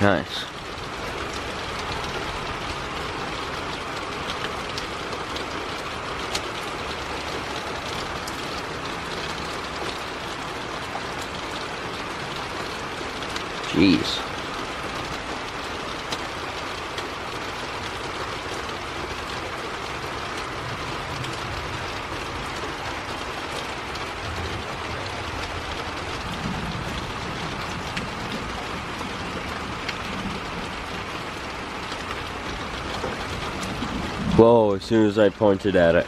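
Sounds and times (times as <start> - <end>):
heavy rain: 0.0 - 36.0.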